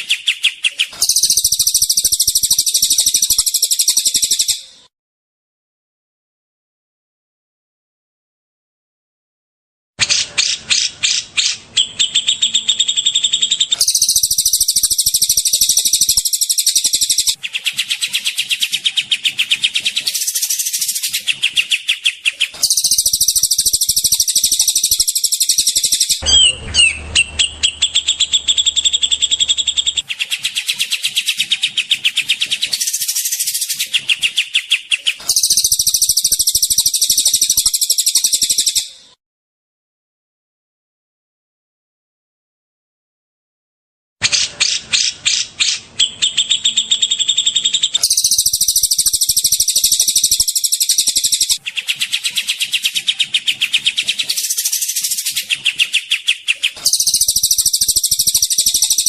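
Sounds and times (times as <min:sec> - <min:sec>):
songbird rattling trills: 0:00.1 - 0:04.6, 0:10.4 - 0:38.9, 0:44.3 - 0:59.0.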